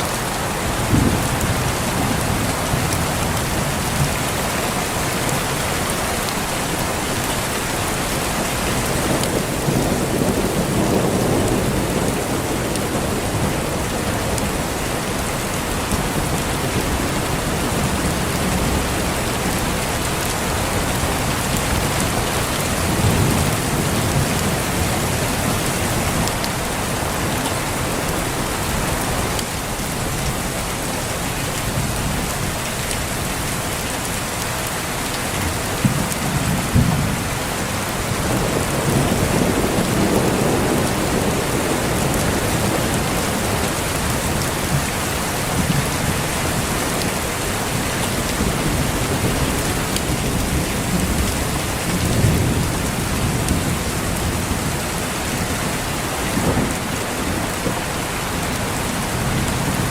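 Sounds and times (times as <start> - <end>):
thunder rumbling: 0.0 - 30.6, 35.4 - 59.9
heavy rain: 0.0 - 59.9.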